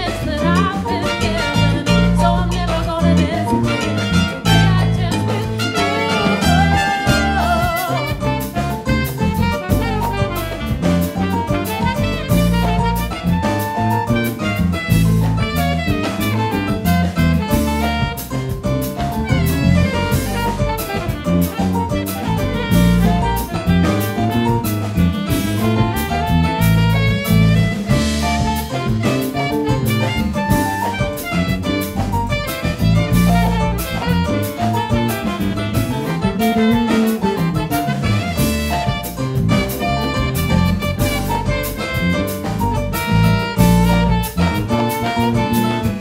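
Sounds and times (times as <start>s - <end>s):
instrumental music: 0.0s - 46.0s
strong bass line: 0.0s - 46.0s
steady drum beat: 3.3s - 46.0s.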